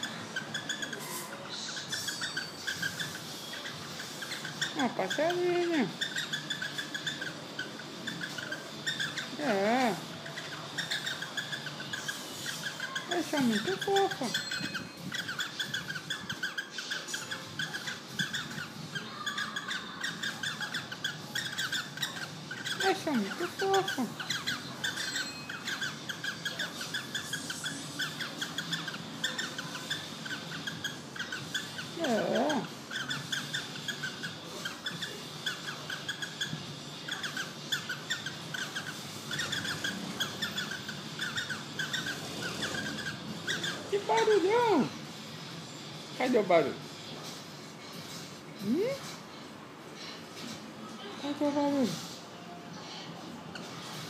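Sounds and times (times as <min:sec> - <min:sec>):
cockatiel squawking: 0:00.0 - 0:45.0.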